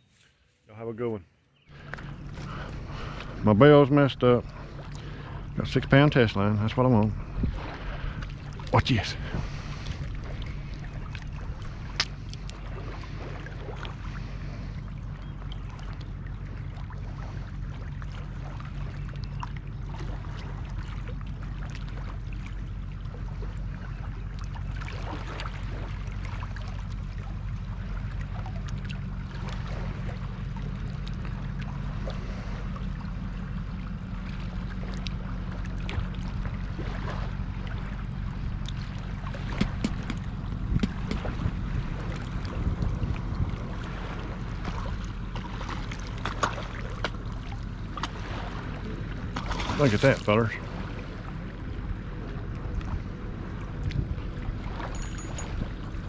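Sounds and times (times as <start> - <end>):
motorboat engine drone: 0.0 - 56.0.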